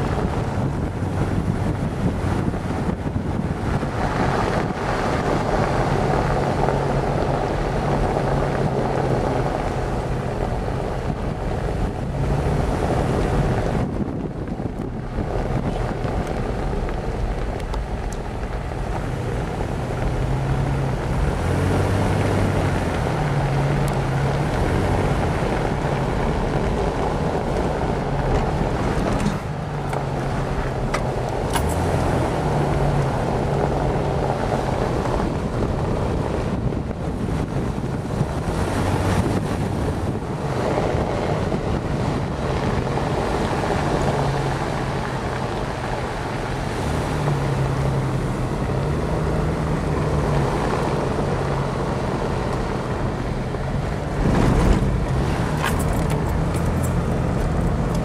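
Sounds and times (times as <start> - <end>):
vehicle engine running: 0.0 - 58.0
wind buffeting the microphone: 0.0 - 58.0.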